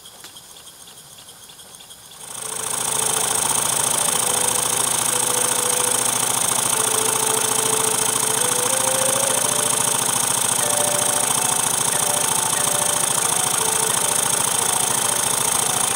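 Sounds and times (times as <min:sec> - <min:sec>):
model steam engine exhaust beats: 0:02.2 - 0:15.9.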